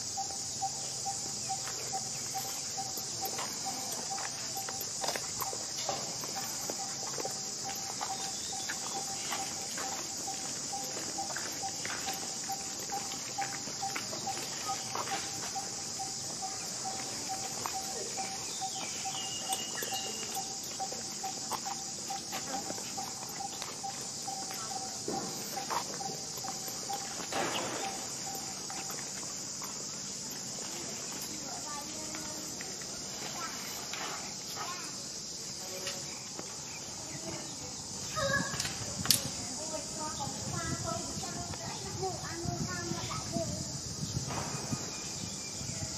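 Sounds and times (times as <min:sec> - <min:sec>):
high-pitched insect chorus: 0:00.0 - 0:45.9
rapid pulsing insect call: 0:00.0 - 0:45.9.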